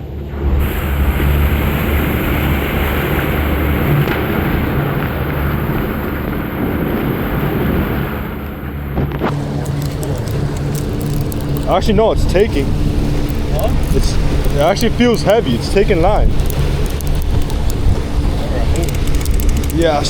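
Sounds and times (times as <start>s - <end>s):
boat engine rumble: 0.0s - 20.0s
wind buffeting microphone: 0.0s - 20.0s.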